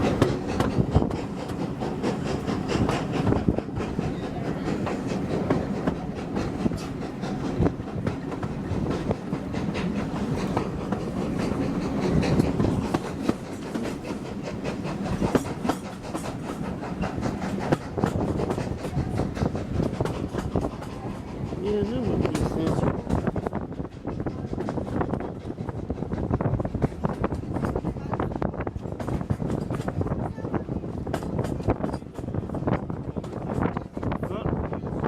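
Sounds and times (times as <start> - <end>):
wheels clicking over rail joints: 0.0 - 34.1
railway carriage rumble: 0.0 - 35.0.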